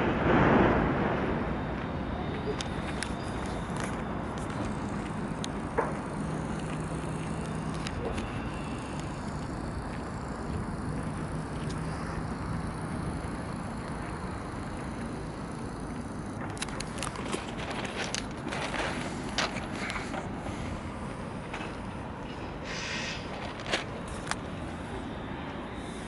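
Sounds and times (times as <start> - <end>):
faint low hum: 0.0 - 26.0
outdoor background rush: 0.0 - 26.0.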